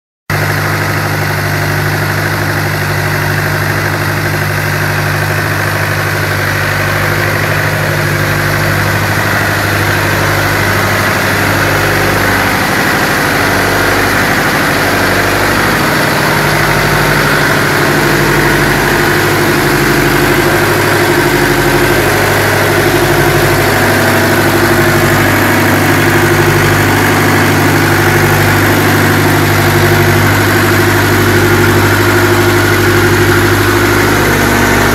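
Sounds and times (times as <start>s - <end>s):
diesel engine running: 0.3s - 34.9s.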